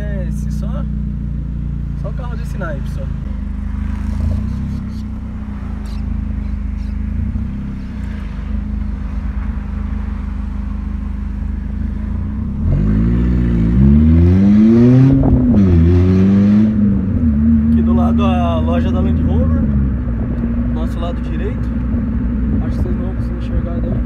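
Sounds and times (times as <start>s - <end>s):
car engine droning and revving: 0.0s - 24.0s.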